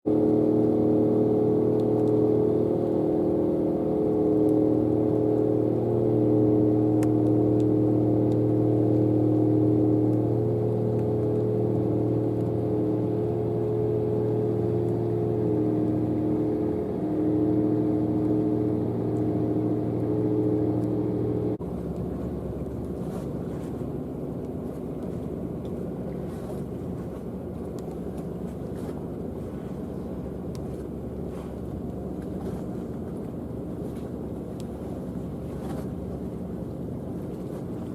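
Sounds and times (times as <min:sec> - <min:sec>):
ferry diesel engines humming: 0:00.0 - 0:37.9
rushing water: 0:00.1 - 0:37.9.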